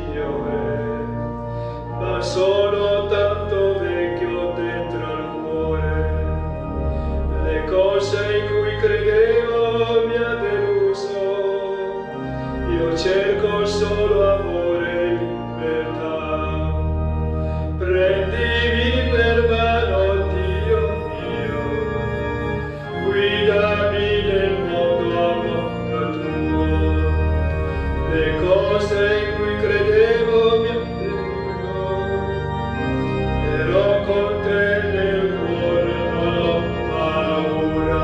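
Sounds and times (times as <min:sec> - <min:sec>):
church organ playing hymn: 0:00.0 - 0:38.0.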